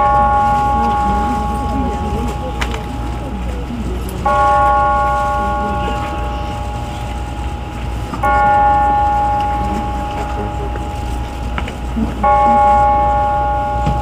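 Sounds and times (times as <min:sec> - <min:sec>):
church bell tolling: 0:00.0 - 0:14.0.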